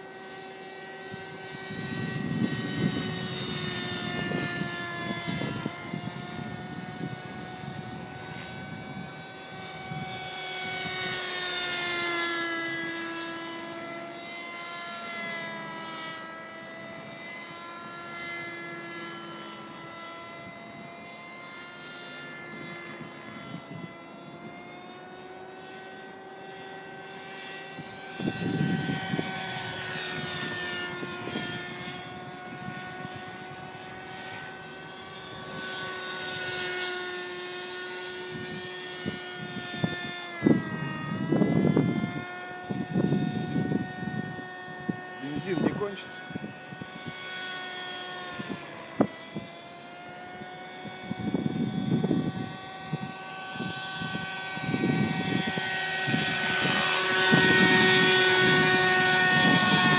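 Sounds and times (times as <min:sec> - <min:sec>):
model helicopter engine whine: 0:00.0 - 0:59.9.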